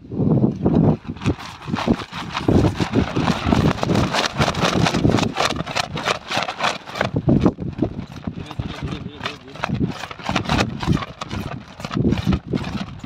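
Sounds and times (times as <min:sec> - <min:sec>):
plastic bag crinkling: 0:00.8 - 0:13.0.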